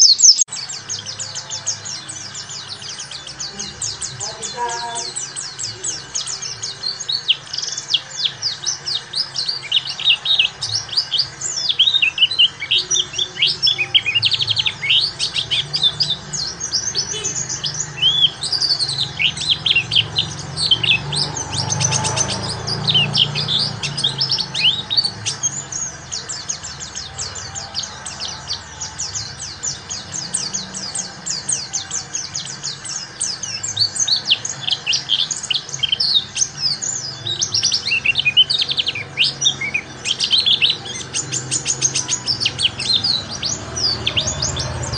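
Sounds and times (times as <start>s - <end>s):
bird chattering chirps and twitters: 0.0s - 44.9s.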